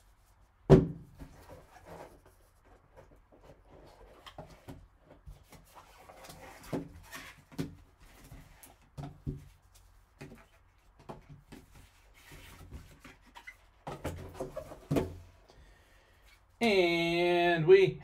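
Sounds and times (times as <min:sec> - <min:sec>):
cardboard and foam rubbing: 0:00.0 - 0:15.4.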